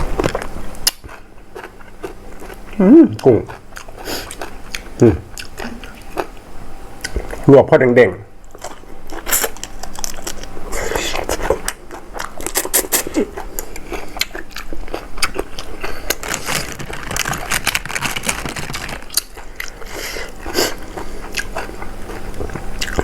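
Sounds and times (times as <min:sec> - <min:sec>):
biting and chewing food: 0:00.0 - 0:07.5, 0:08.4 - 0:23.0.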